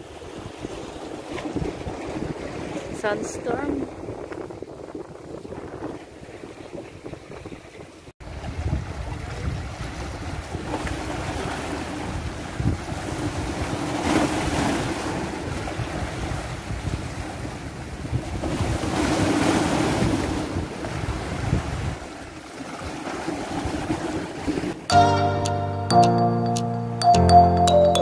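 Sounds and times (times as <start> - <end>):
waves splashing against rocks: 0.0 - 4.8, 5.5 - 24.9
wind rumble on microphone: 0.0 - 24.8.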